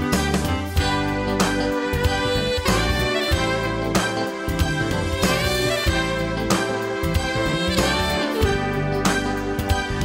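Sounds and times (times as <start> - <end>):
saxophone jazz music: 0.0 - 10.0.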